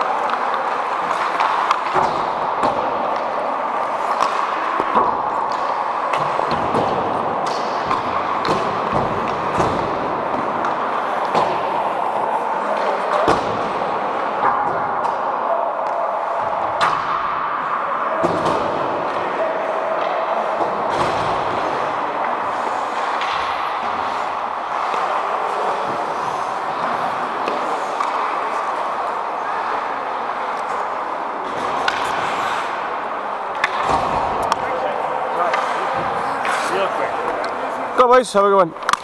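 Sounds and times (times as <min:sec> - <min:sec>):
skates scraping ice: 0:00.0 - 0:17.0, 0:18.0 - 0:38.0
pucks and sticks hitting boards: 0:00.0 - 0:39.0.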